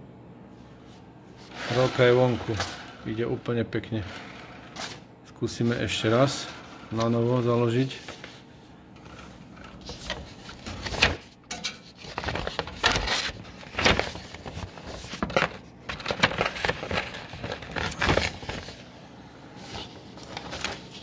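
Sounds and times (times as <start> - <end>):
paper rustling and scraping: 0.9 - 18.9, 19.5 - 21.0.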